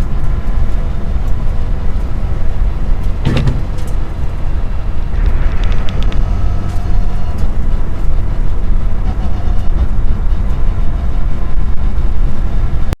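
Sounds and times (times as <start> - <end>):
car engine rumble from inside: 0.0 - 13.0
road noise: 0.0 - 13.0.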